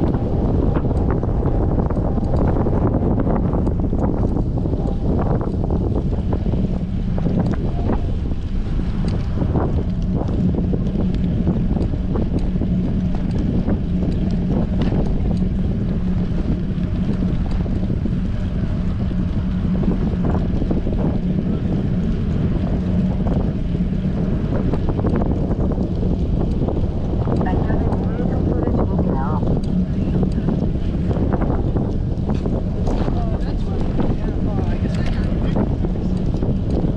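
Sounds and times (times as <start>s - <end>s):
low hum: 0.0s - 36.9s
wind buffeting microphone: 0.0s - 36.9s.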